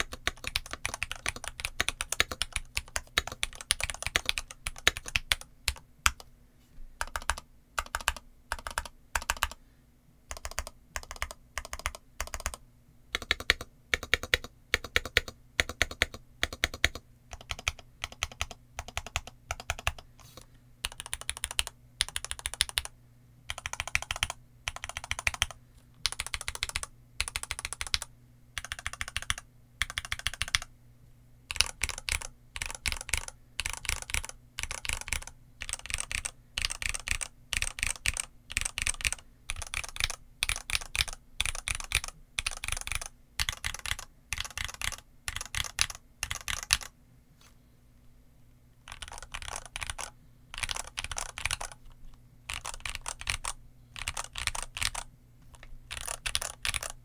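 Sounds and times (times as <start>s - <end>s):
mechanical keyboard typing: 0.0s - 6.3s, 7.0s - 9.6s, 10.3s - 12.6s, 13.2s - 22.9s, 23.5s - 30.7s, 31.5s - 46.9s, 48.9s - 51.9s, 52.5s - 57.0s.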